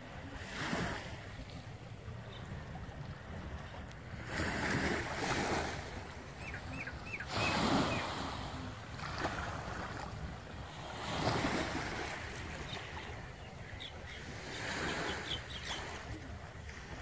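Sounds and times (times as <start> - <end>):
small waves washing on beach: 0.0 - 17.0
wind buffeting microphone: 0.0 - 17.0.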